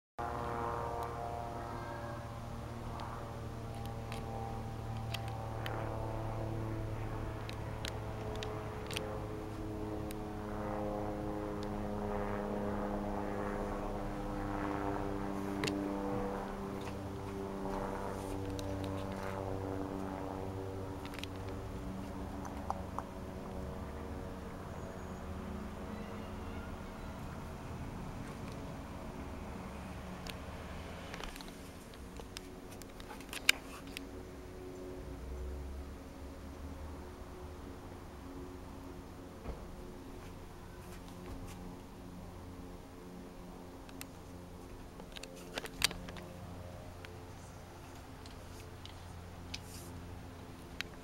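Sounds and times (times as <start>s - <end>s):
aircraft engine drone overhead: 0.2s - 51.0s.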